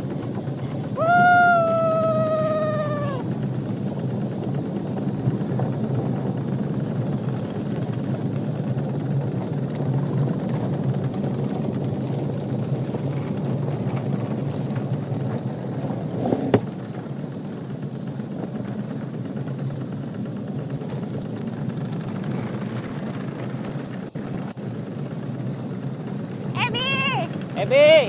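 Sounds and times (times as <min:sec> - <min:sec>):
kart wheels rumbling on asphalt: 0:00.0 - 0:28.0.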